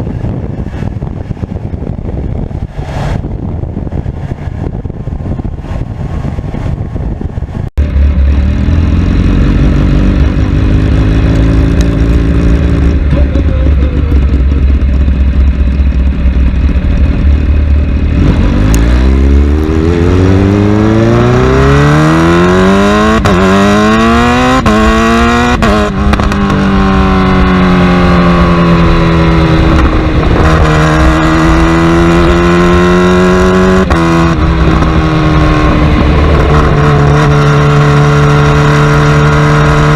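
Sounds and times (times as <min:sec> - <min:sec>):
motorcycle engine at high revs: 0:07.8 - 0:39.9.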